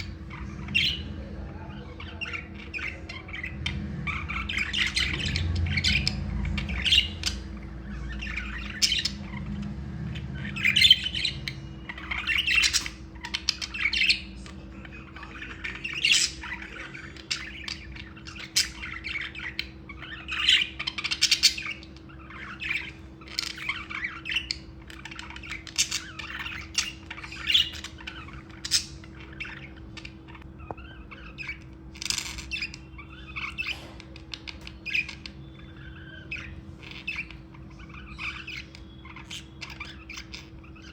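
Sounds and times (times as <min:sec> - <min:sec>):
budgerigars chirping: 0:00.0 - 0:40.9
faint steady hum: 0:00.0 - 0:40.9.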